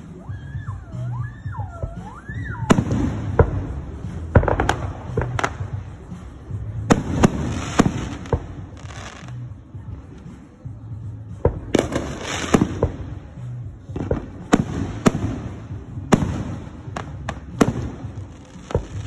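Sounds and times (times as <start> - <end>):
fireworks bangs: 0.0 - 9.5, 11.3 - 19.0.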